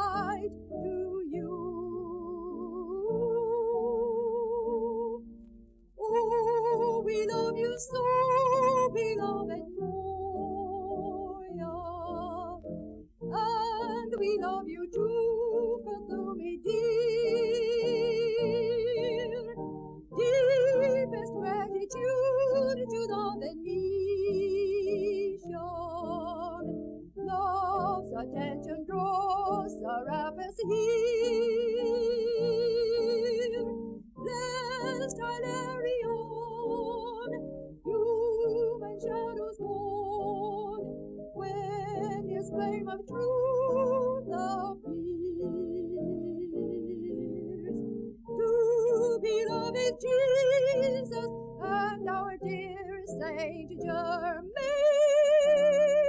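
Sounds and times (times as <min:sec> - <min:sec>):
woman singing a hymn: 0:00.0 - 0:05.2, 0:06.0 - 0:56.0.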